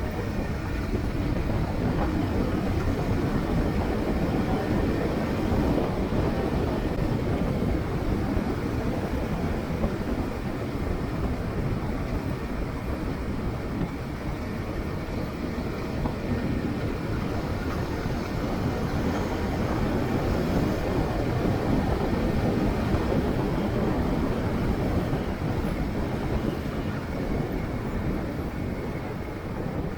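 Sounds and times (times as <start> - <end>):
wind and road noise on motorcycle: 0.0 - 29.9.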